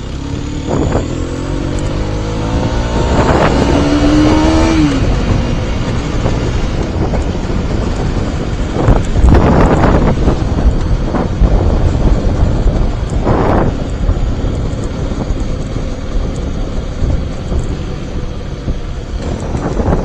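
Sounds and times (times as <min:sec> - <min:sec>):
motorcycle engine hum: 0:00.0 - 0:20.0
wind buffeting microphone: 0:00.2 - 0:20.0.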